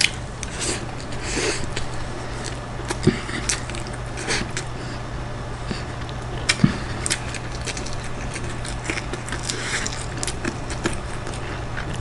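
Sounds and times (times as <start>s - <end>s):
person chewing food: 0.0s - 12.0s
steady low hum: 0.0s - 12.0s.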